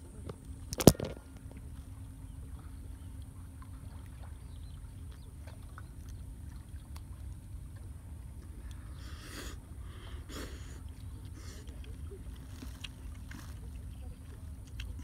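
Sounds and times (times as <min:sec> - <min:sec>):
wind and sea rumble: 0:00.0 - 0:15.0.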